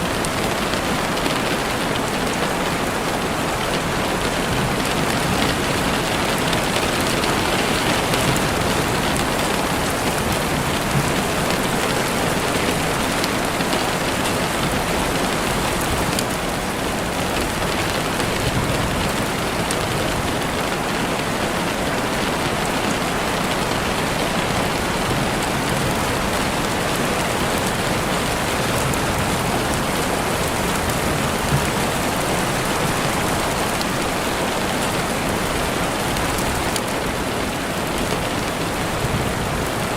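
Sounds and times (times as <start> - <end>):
rain on surfaces: 0.0 - 39.9.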